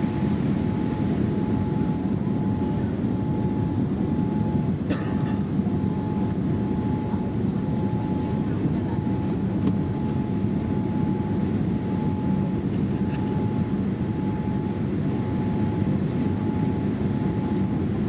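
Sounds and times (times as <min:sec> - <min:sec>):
airliner cabin engine rumble: 0:00.0 - 0:18.0
faint steady tone: 0:00.0 - 0:18.0.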